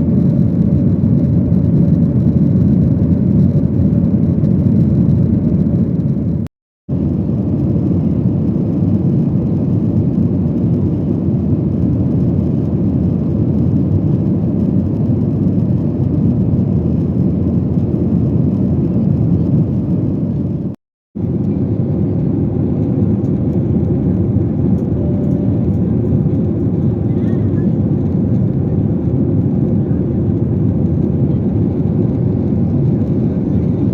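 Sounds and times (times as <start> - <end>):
airliner cabin engine roar: 0.0 - 33.9.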